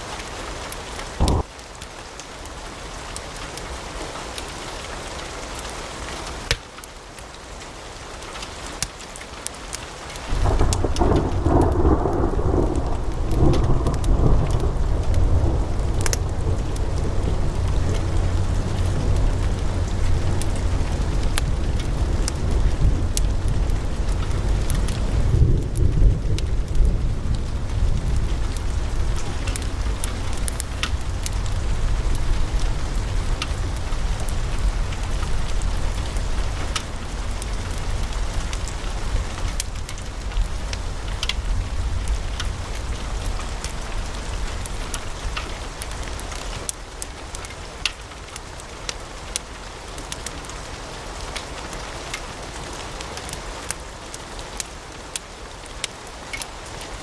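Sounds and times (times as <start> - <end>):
log fire crackling and popping: 0.0 - 4.8, 5.5 - 57.0
low rumble of flames: 0.0 - 57.0.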